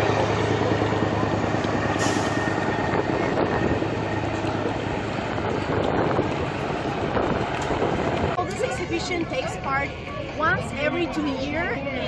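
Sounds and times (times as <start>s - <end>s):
wind on microphone: 0.0s - 11.2s
engine-like rumble: 0.0s - 12.0s.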